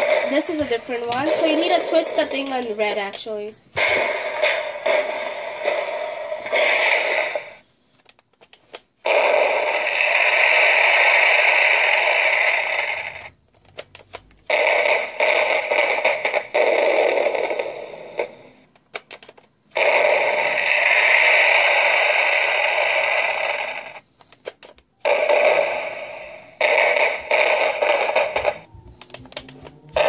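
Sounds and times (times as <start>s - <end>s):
electronic fireworks sound effect: 0.0s - 3.0s, 3.8s - 7.7s, 9.0s - 13.4s, 14.5s - 18.6s, 19.8s - 24.0s, 25.0s - 30.0s.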